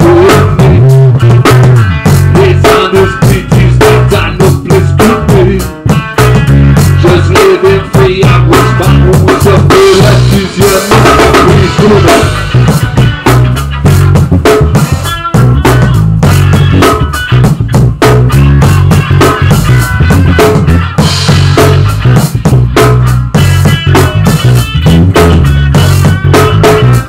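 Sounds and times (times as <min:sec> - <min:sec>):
bass line: 0:00.0 - 0:27.0
guitar playing: 0:00.0 - 0:27.0
rapid drum hits: 0:00.0 - 0:27.0.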